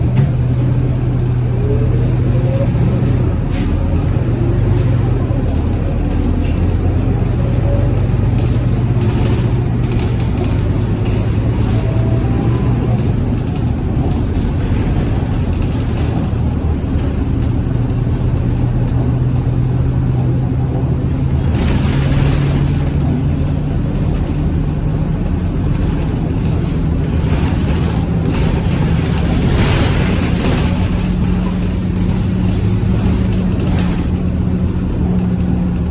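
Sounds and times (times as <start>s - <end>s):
bus diesel engine running: 0.0s - 35.9s.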